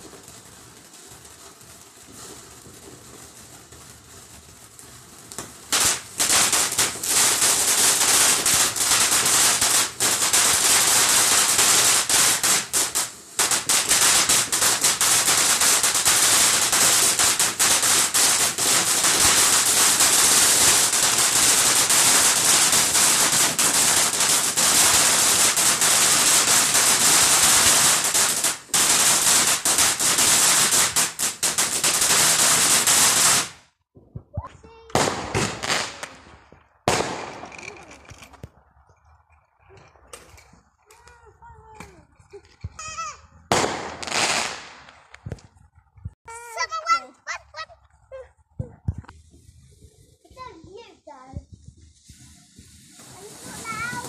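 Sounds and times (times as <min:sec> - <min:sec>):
firework crackling: 0:00.0 - 0:54.0.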